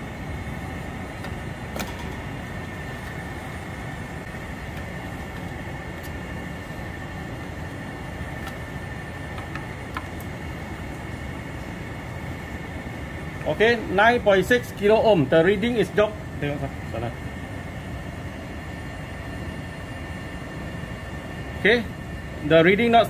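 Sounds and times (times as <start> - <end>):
air conditioning units humming: 0.0 - 23.0.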